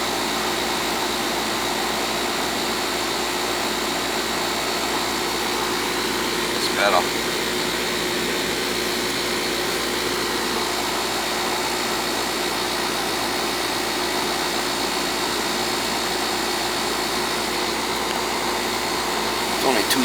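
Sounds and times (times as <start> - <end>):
air conditioning fan rush: 0.0 - 20.0.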